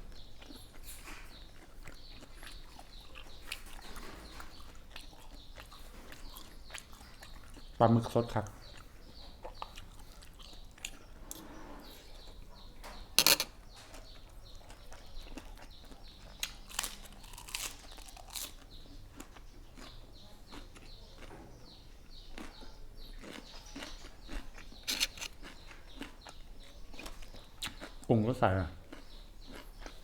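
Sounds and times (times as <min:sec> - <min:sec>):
person chewing and crunching: 0:00.0 - 0:11.5, 0:13.2 - 0:28.2, 0:28.8 - 0:30.0.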